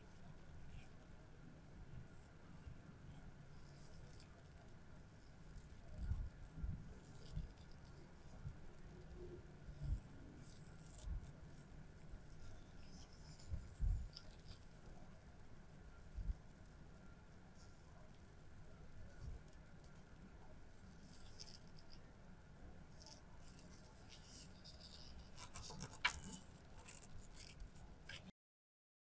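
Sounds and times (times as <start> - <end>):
faint rustle of gloved fingers: 0.0 - 28.3.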